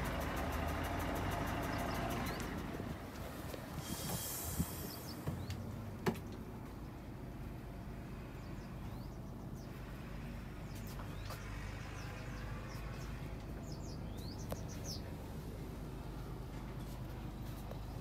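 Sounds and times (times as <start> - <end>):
diesel bus engine idling: 0.0 - 18.0
birds chirping: 0.1 - 18.0.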